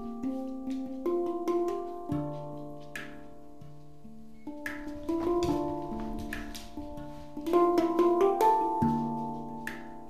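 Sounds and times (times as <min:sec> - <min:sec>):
handpan notes ringing: 0:00.0 - 0:10.0.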